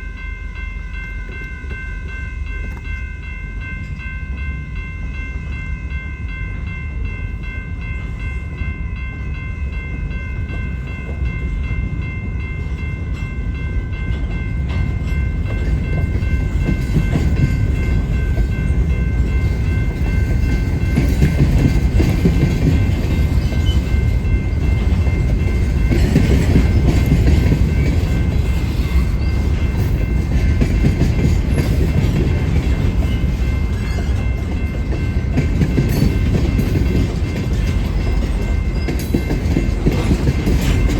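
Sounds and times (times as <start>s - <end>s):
train rumbling and clattering: 0.0s - 40.9s.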